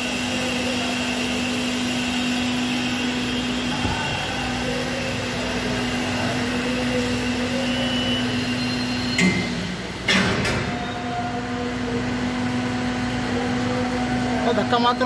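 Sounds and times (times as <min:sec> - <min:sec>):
hydraulic press humming: 0:00.0 - 0:15.0.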